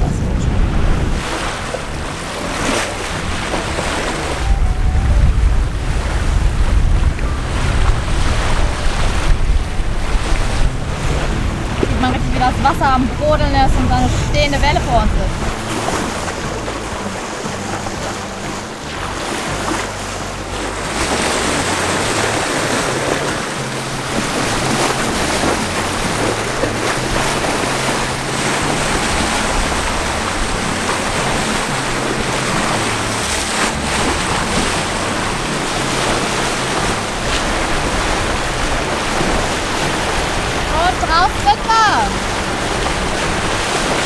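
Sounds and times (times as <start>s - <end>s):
water rushing past hull: 0.0s - 44.0s
wind buffeting microphone: 0.0s - 44.0s.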